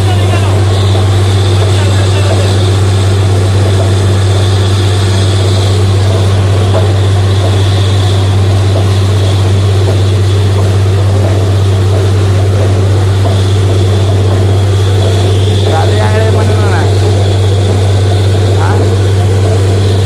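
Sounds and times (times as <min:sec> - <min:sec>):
drilling rig engine drone: 0:00.0 - 0:20.0.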